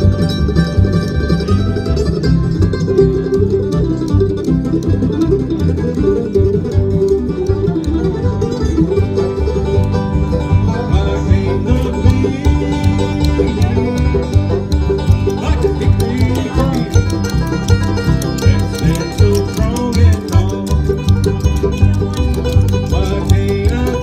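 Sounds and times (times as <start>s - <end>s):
banjo: 0.0s - 24.0s
bluegrass band playing: 0.0s - 24.0s.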